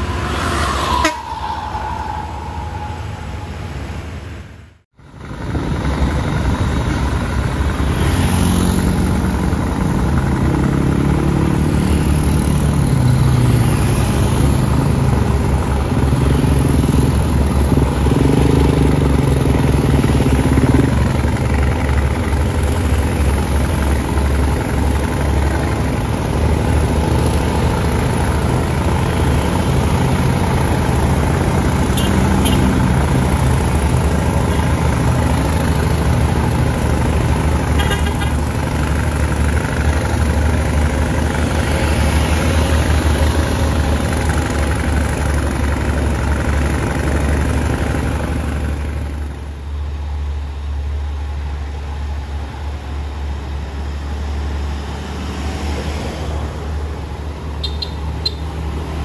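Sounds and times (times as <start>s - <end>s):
heavy diesel bus engine: 0.0s - 59.0s
road noise: 0.0s - 59.0s.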